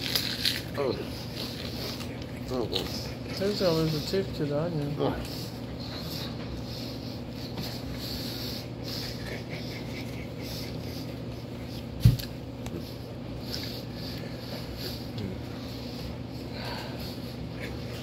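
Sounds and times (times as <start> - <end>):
man chewing raw onion: 0.0 - 18.0.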